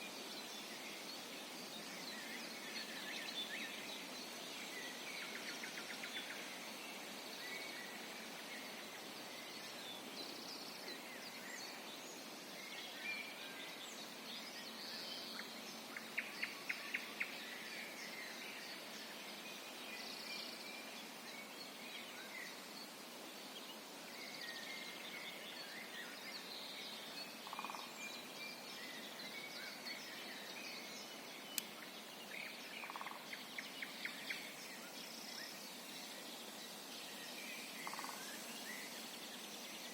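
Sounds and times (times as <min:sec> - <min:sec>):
steady background hiss: 0:00.0 - 0:39.9
wild birds singing and calling: 0:00.0 - 0:39.9.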